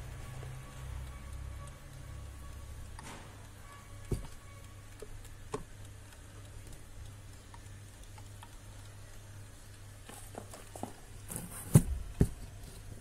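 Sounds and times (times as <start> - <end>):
mechanical alarm clock ticking: 0.0 - 11.3.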